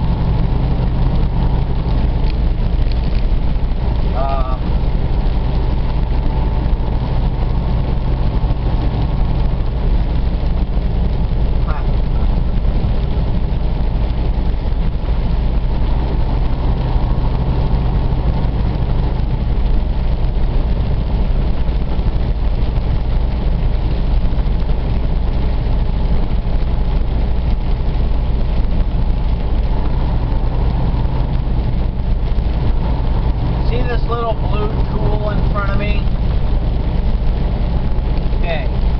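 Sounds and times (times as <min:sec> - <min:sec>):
truck engine low hum: 0:00.0 - 0:38.9
tyres on wet road: 0:00.0 - 0:38.9.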